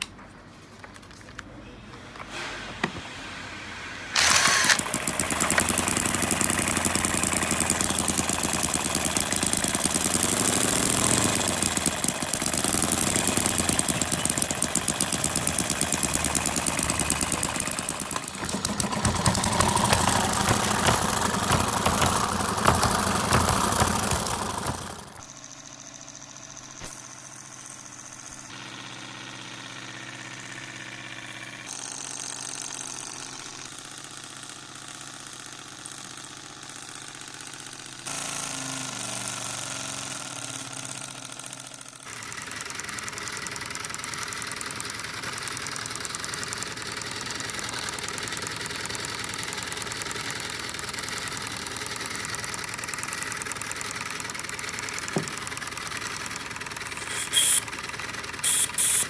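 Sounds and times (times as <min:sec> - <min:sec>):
small model engines humming: 0:04.1 - 0:34.2, 0:35.1 - 0:59.0.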